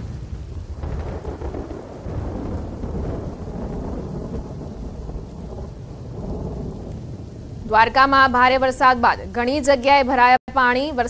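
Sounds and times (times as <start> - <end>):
wind buffeting microphone: 0.0 - 9.8
rain: 0.0 - 11.0.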